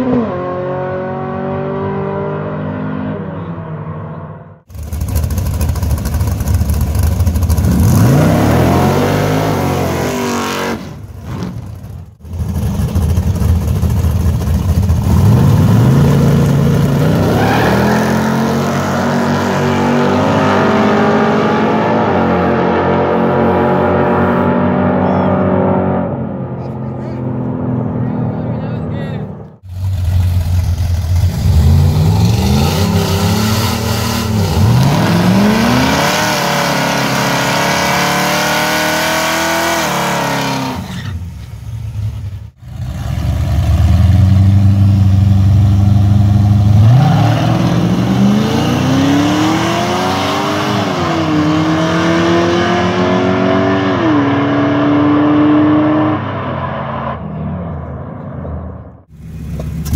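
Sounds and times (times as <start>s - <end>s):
drag racing cars accelerating: 0.0s - 41.3s, 42.6s - 59.9s.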